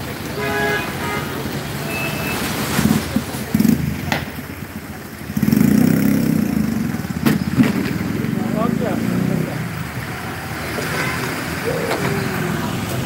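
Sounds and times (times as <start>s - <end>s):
heavy rain pouring: 0.0s - 13.0s
motorcycle engines passing: 0.0s - 13.0s.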